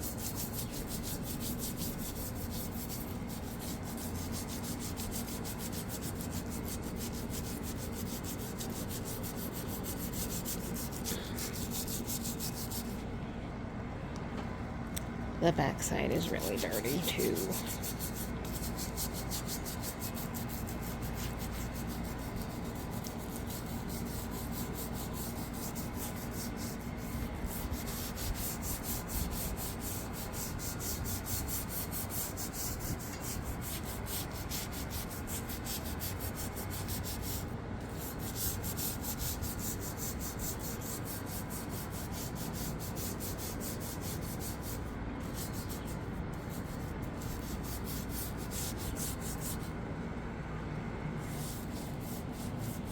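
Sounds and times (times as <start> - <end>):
scrubbing a grimy surface: 0.0 - 13.0, 15.9 - 49.7, 51.2 - 52.9.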